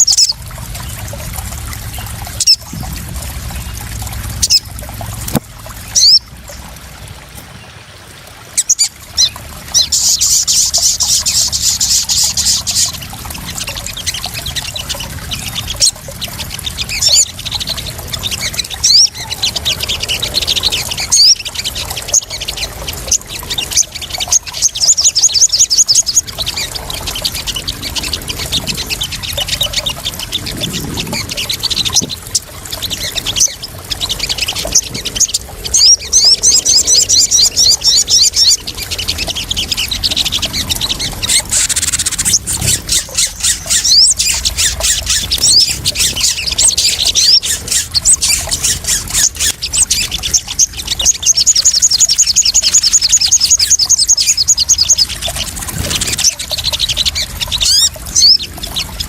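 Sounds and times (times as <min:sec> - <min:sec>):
bird chirping rapidly: 0:00.0 - 0:01.0, 0:01.9 - 0:02.8, 0:04.4 - 0:04.7, 0:05.3 - 0:06.4, 0:08.5 - 0:59.0
water splashing softly: 0:00.0 - 0:59.0.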